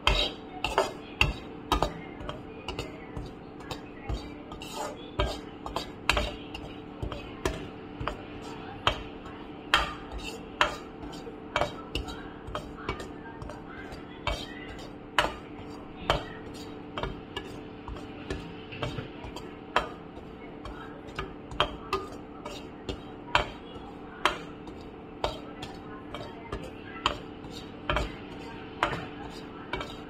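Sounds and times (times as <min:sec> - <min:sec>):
metal spatula scraping pan: 0:00.0 - 0:09.0, 0:09.7 - 0:30.0
steady low hum: 0:00.0 - 0:30.0.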